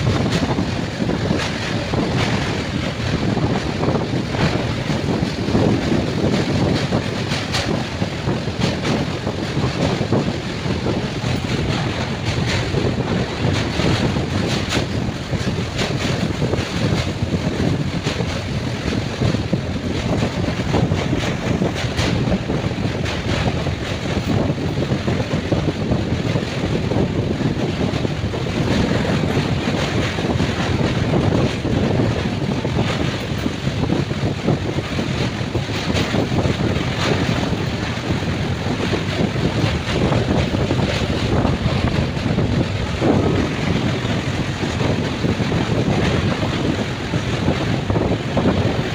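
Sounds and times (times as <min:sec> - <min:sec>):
train wheels rumbling on track: 0:00.0 - 0:48.9.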